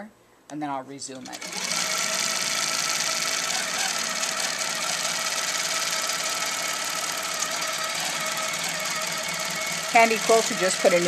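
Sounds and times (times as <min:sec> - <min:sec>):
quilting machine stitching rapidly: 0:01.2 - 0:11.0.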